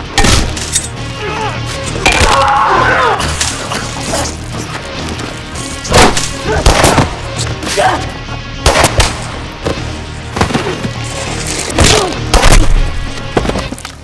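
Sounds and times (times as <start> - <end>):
low droning music: 0.0 - 14.0.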